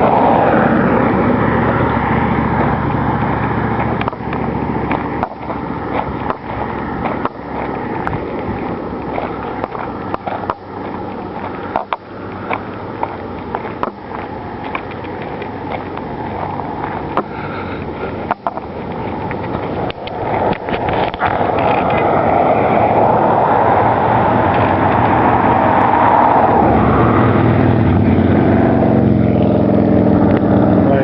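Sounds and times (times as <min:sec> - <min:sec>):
low engine hum: 0:00.0 - 0:31.0
vehicle driving past: 0:00.0 - 0:31.0.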